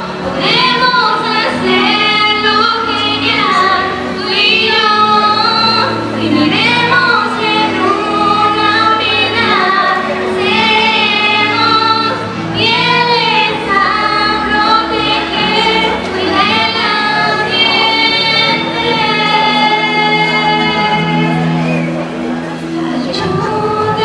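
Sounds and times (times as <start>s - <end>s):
girls singing a slow ballad: 0.0s - 24.0s
sustained instrumental accompaniment: 0.0s - 24.0s.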